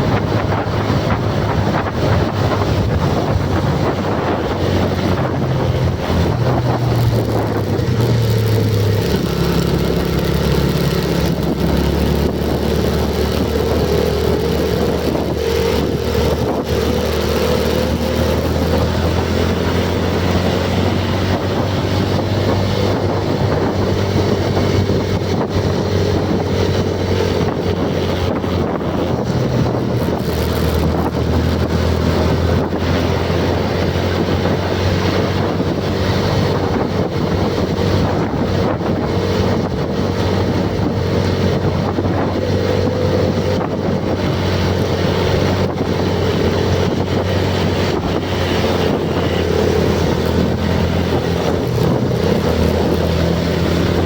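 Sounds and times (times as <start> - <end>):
motor engine running: 0.0 - 54.0
wind buffeting microphone: 0.0 - 54.0.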